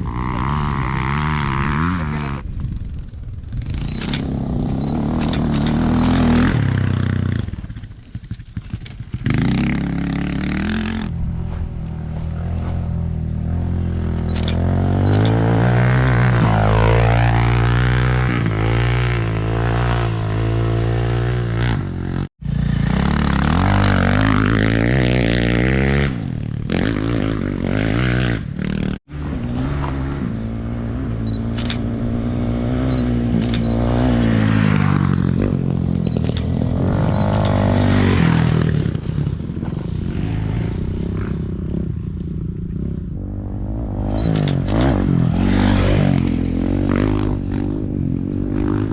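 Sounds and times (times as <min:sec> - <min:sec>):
racing motorcycle engines revving: 0:00.0 - 0:48.9.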